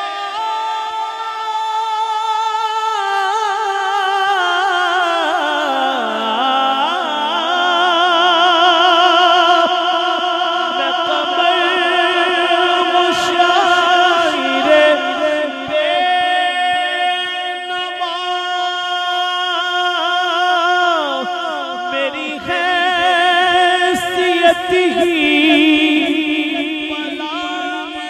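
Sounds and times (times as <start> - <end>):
man singing a cappella: 0.0 - 28.0.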